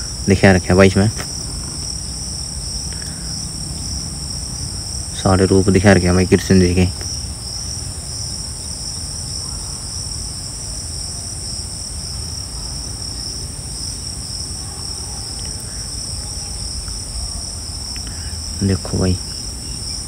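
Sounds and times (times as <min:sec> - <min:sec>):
insects chirring: 0:00.0 - 0:20.0
low rumbling background noise: 0:00.0 - 0:20.0.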